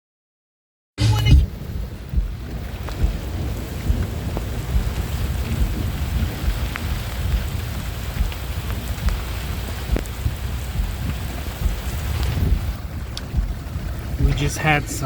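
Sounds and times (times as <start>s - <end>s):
rain falling: 1.0s - 15.0s
low rumble of thunder: 1.4s - 15.0s
wind on microphone: 1.4s - 15.0s
drops ticking nearby: 1.8s - 15.0s.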